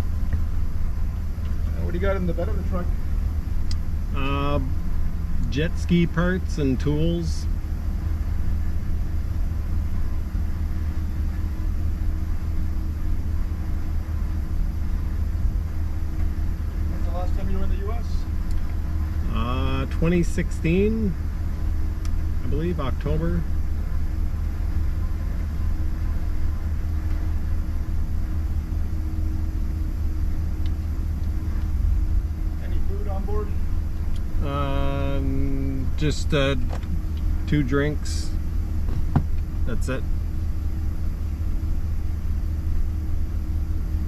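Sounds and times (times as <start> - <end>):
faint steady hum: 0.0 - 44.0
truck engine idling: 0.0 - 44.0.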